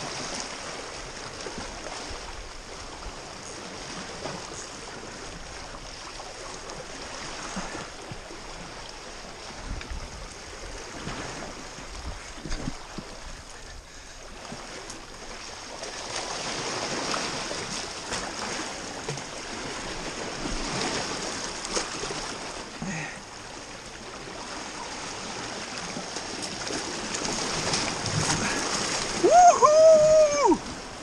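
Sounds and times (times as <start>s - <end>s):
surf washing against rocky shore: 0.0s - 31.0s.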